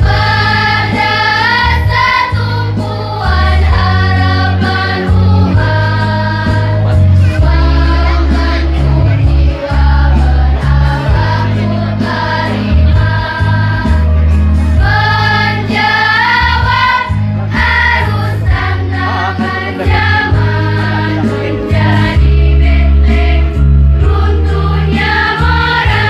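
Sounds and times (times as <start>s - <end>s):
choir singing in unison: 0.0s - 26.0s
low bass notes: 0.0s - 26.0s.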